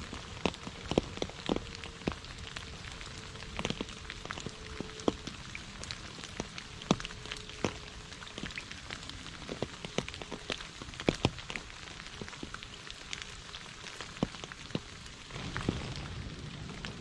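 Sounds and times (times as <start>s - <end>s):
rain falling on puddles and leaves: 0.0s - 17.0s.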